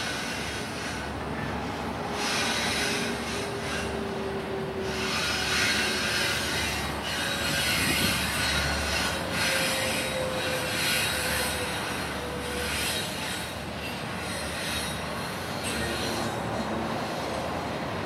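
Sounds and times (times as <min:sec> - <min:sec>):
train wheels rushing on rails: 0:00.0 - 0:18.0
thin wheel squeal: 0:02.1 - 0:04.1, 0:04.8 - 0:17.4.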